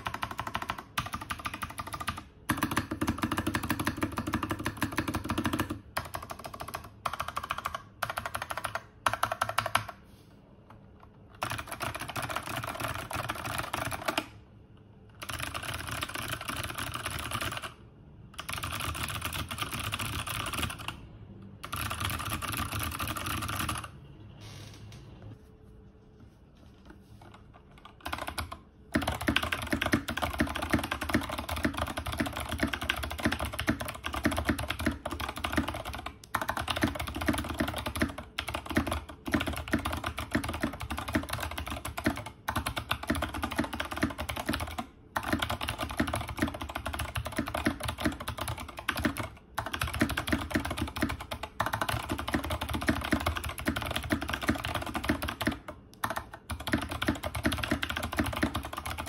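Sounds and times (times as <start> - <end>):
fast typing on clicky keyboard: 0.0 - 10.0, 10.7 - 14.5, 15.1 - 24.0, 27.2 - 59.0.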